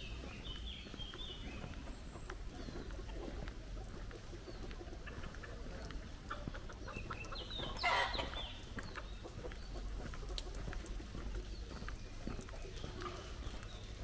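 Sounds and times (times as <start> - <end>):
footsteps on hard paving: 0.0 - 14.0.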